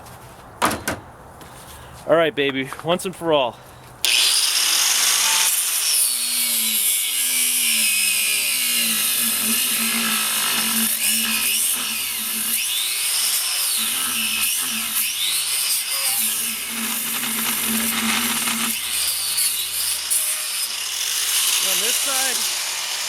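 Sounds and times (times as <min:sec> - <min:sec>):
angle grinder cutting rubber tire: 0:04.0 - 0:23.0.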